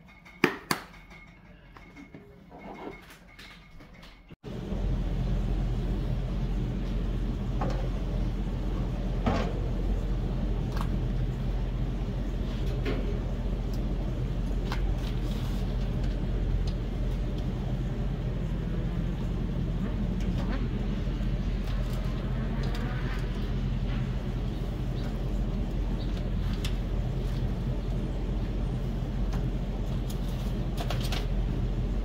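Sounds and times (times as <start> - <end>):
low motor hum: 4.4 - 32.0.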